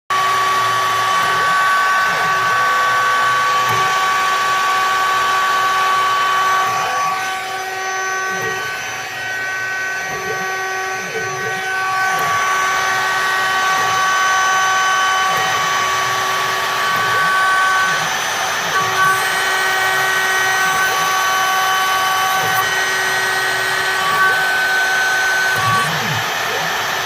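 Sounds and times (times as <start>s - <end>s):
high-speed spindle whine: 0.1s - 27.0s.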